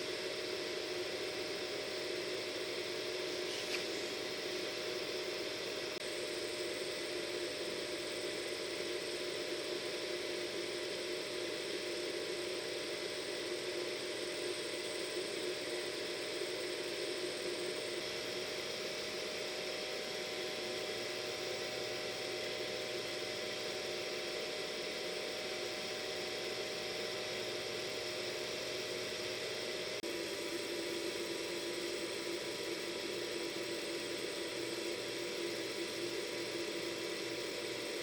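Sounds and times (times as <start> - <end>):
hair dryer running: 0.0 - 38.0.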